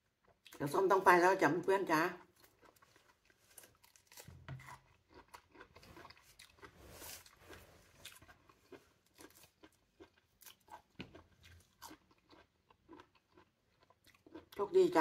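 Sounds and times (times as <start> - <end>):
faint chewing of juicy fruit: 0.0 - 1.0, 1.8 - 15.0.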